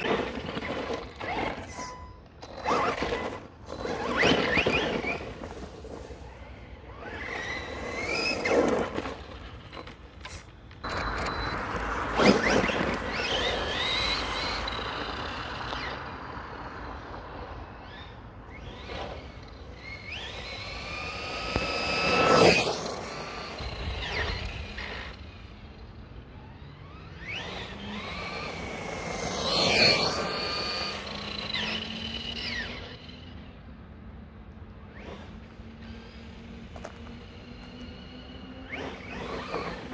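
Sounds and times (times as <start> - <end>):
electric motor whine passing: 0.0 - 39.9.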